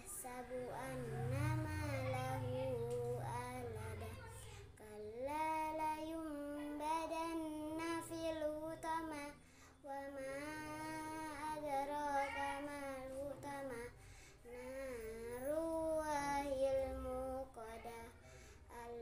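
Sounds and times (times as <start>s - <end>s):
girl chanting recitation: 0.0s - 19.0s.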